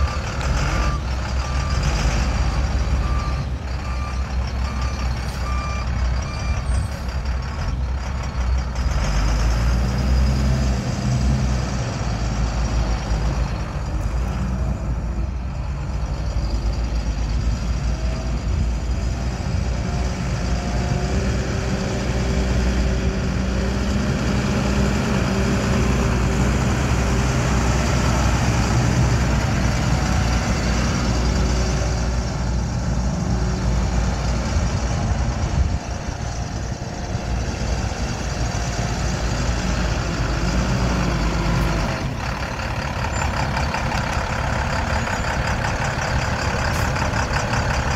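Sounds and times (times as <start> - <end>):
diesel truck engine: 0.0 - 47.9.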